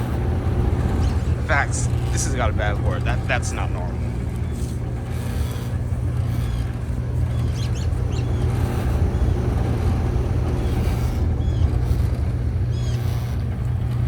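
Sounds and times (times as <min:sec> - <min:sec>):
heat pump compressor and fan hum: 0:00.0 - 0:14.0.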